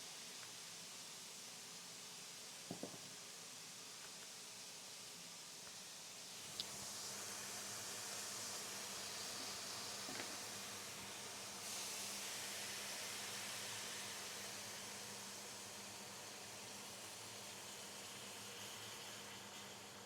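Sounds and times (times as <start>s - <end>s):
pan of milk hissing on stove: 0.0s - 20.0s.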